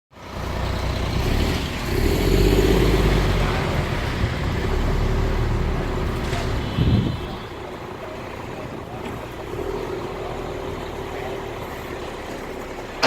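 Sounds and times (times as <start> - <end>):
engine rumbling: 0.1 - 13.0.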